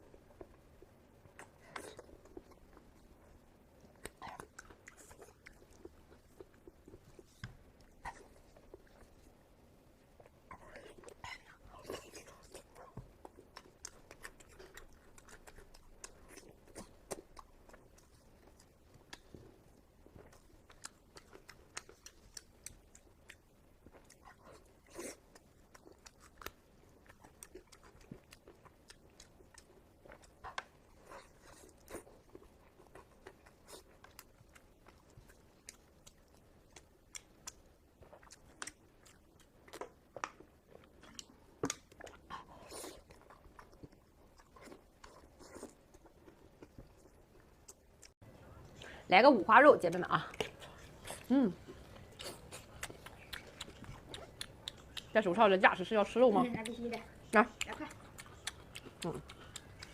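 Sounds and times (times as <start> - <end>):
person chewing with mouth clicks: 1.2 - 3.0, 3.8 - 9.3, 10.2 - 49.0, 50.2 - 55.2, 56.4 - 59.9.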